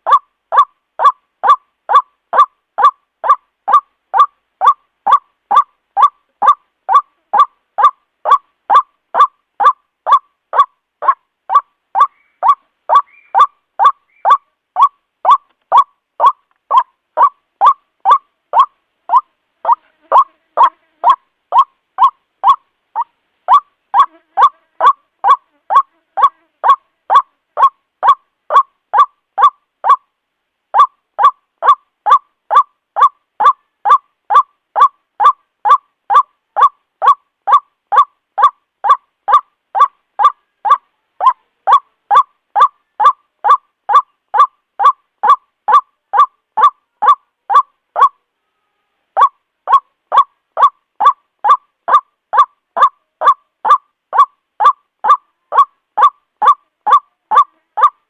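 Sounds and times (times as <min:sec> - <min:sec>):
waterhen calling: 0:00.0 - 0:30.0, 0:30.7 - 0:48.2, 0:49.2 - 0:58.0.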